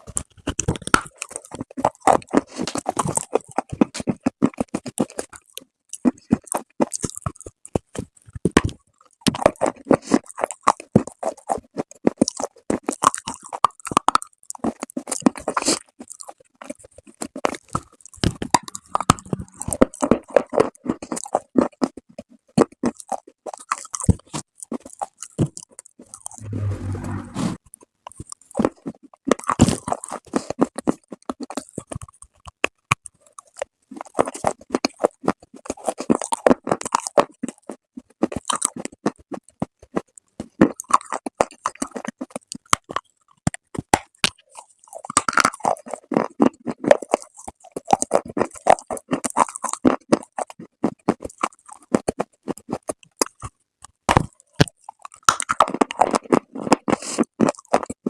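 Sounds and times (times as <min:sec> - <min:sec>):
crunching and chewing dry clay: 0:00.0 - 0:26.4, 0:27.7 - 0:58.0.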